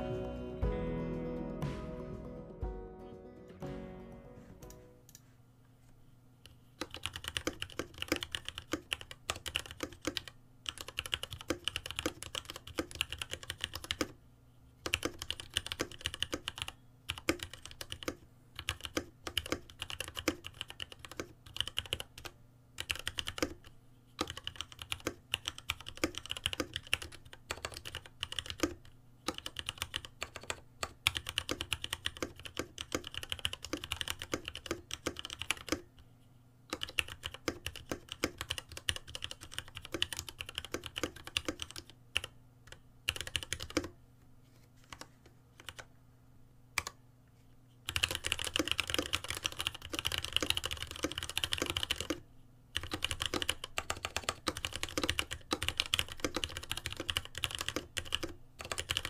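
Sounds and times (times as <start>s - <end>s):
mechanical keyboard typing: 6.8s - 14.2s, 14.8s - 35.9s, 36.7s - 44.0s, 44.9s - 45.9s, 46.8s - 47.0s, 47.9s - 52.2s, 52.8s - 59.0s.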